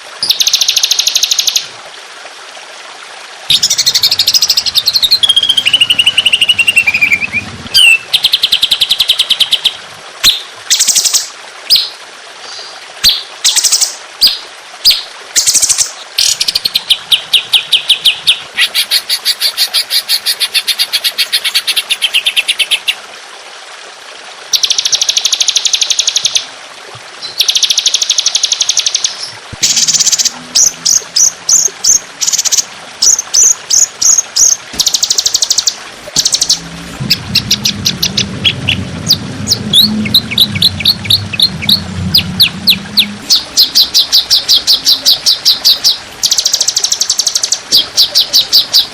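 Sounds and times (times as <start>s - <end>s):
recorded songbird song: 0.2s - 1.7s, 3.5s - 23.0s, 24.5s - 26.4s, 27.2s - 48.9s.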